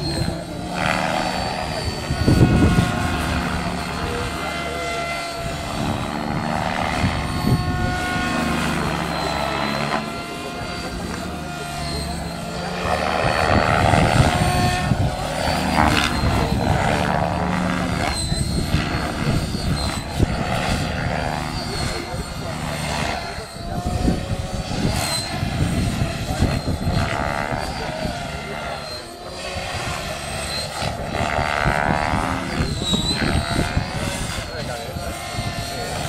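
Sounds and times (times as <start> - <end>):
model helicopter whining and whooshing: 0.0 - 36.0.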